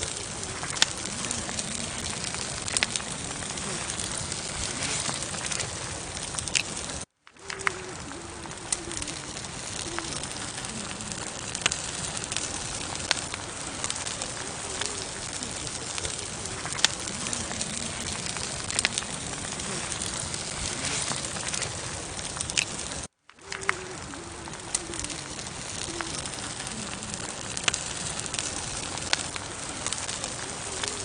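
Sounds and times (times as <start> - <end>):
burning wood crackling and popping: 0.0 - 31.0
hiss of campfire flames: 0.0 - 31.0.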